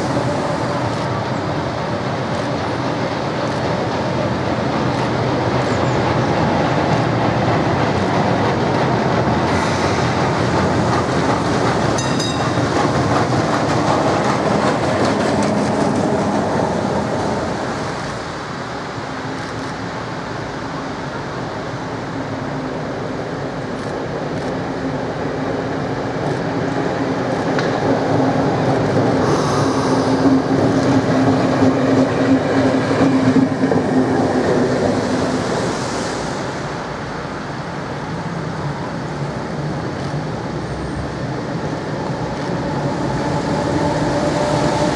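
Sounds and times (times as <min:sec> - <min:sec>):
tram wheels rumbling on rails: 0:00.0 - 0:44.9.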